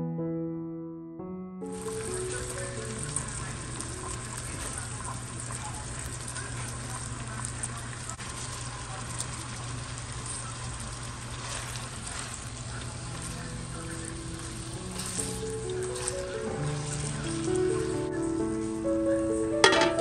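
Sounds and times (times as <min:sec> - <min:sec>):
meat sizzling in hot oil: 0:01.7 - 0:18.9
spatula moving through pan: 0:01.7 - 0:18.9.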